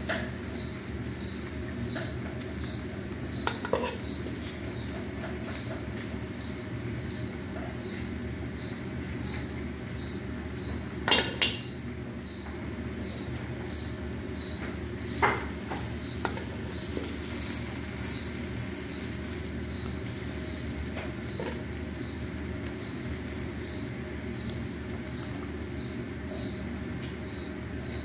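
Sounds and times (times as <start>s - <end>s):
chicken frying in oil: 0.0s - 12.0s, 13.4s - 28.0s.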